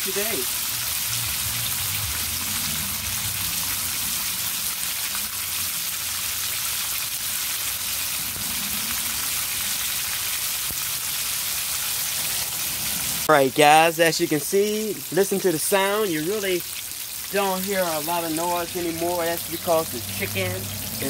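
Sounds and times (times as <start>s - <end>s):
oil sizzling while deep-frying: 0.0s - 21.0s.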